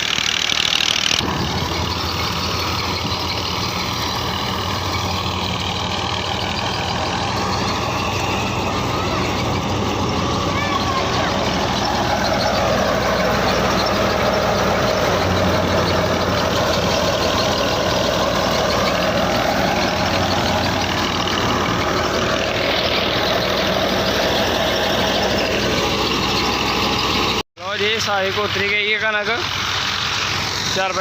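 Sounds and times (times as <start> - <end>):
low engine drone: 0.0 - 27.4
threshing machine rushing noise: 0.0 - 27.4.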